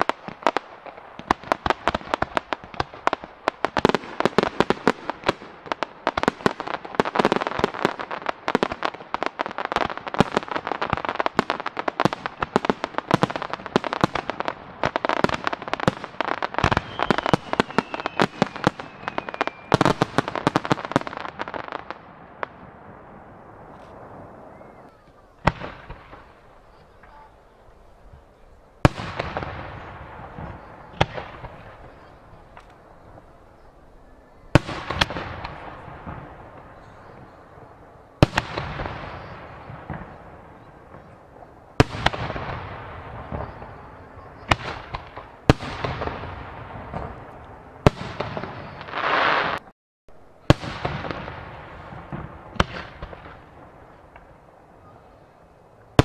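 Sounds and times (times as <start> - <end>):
firework hiss: 0.0 - 27.2, 27.8 - 49.7
firework crackle and echo: 0.0 - 56.0.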